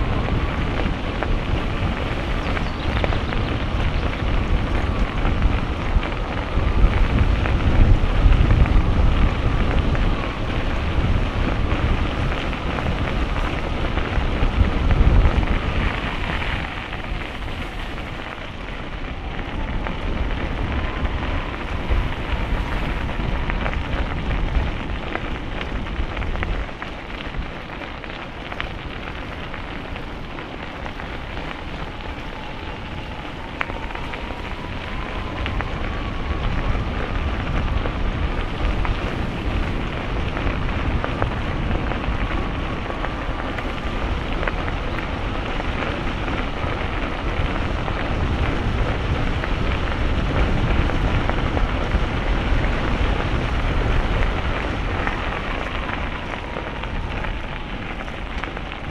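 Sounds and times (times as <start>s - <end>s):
bicycle tyres rolling on path: 0.0s - 58.9s
wind buffeting microphone: 0.0s - 58.9s.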